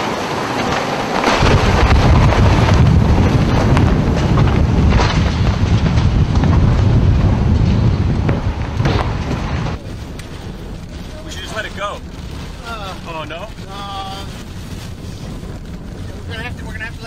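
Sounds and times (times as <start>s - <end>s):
tornado wind roaring: 0.0s - 17.0s.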